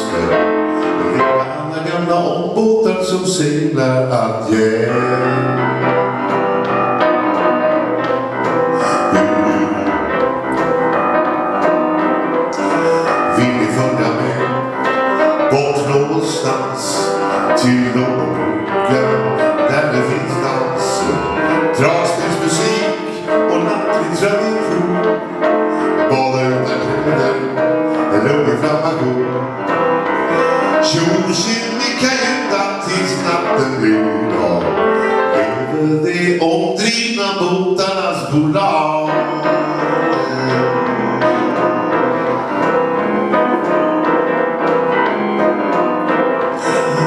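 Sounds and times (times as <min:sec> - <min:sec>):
man singing jazz: 0:00.0 - 0:47.0
piano accompaniment: 0:00.0 - 0:47.0.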